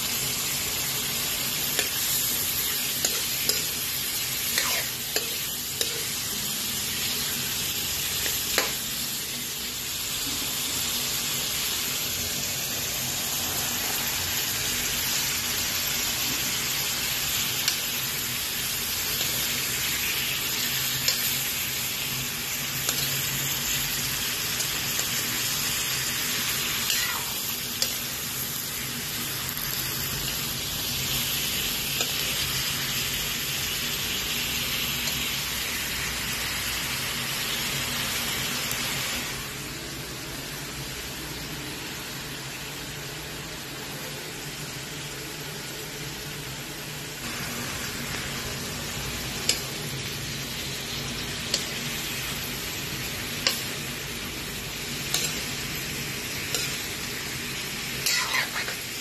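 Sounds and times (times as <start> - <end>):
seafood sizzling in a frying pan: 0.0 - 59.0.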